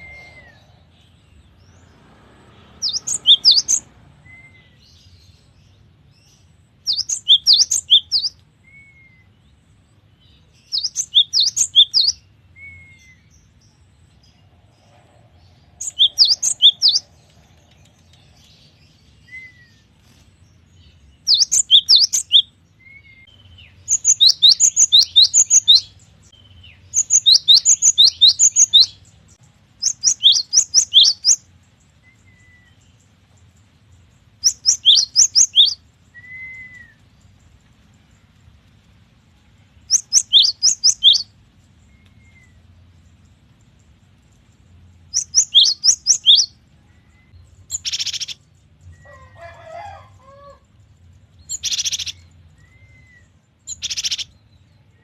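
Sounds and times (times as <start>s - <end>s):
bird singing whistled notes: 0.0s - 1.9s, 2.8s - 5.5s, 6.1s - 14.4s, 15.8s - 17.3s, 17.9s - 33.1s, 34.4s - 37.6s, 39.8s - 43.8s, 45.0s - 49.3s, 51.4s - 55.0s.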